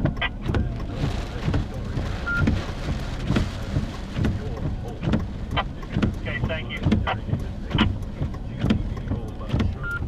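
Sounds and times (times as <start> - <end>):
wind and rain rushing: 0.0 - 9.0.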